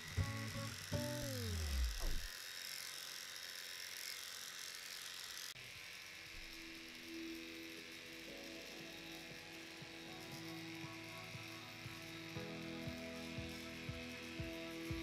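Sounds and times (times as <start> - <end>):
electric clipper cutting fur: 0.0 - 15.0.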